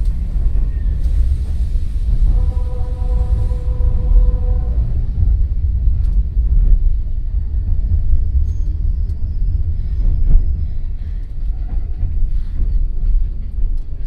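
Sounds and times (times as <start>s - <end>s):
train rumble on rails: 0.0s - 14.0s.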